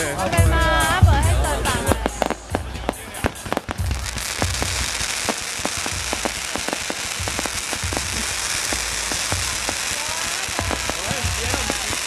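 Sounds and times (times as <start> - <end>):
crackling hiss: 0.0 - 12.0
firework booms: 0.0 - 12.0
firework cracks: 0.0 - 12.0.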